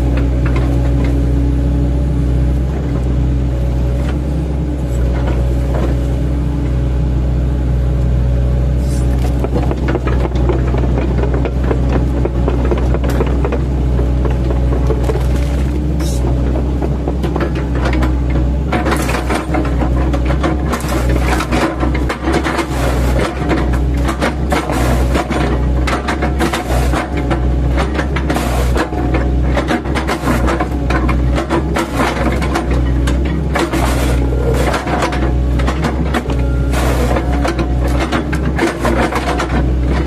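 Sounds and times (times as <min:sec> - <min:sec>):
diesel excavator engine running: 0:00.0 - 0:40.0.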